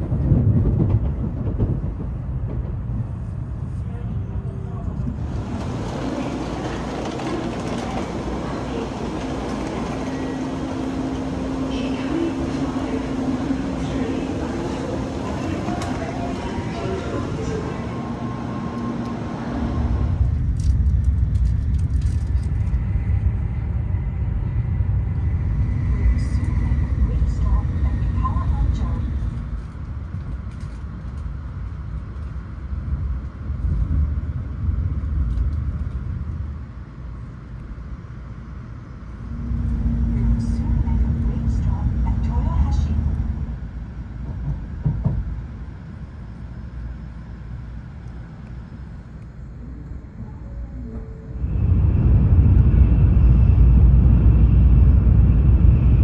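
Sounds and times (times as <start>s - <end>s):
train rumbling: 0.0s - 56.0s
steady hum: 3.2s - 56.0s.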